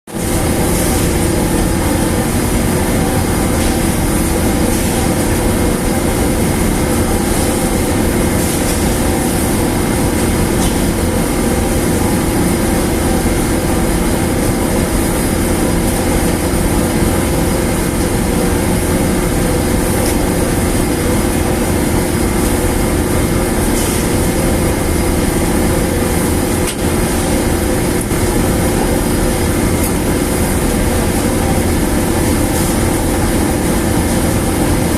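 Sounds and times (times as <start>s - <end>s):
large machine running: 0.1s - 34.9s.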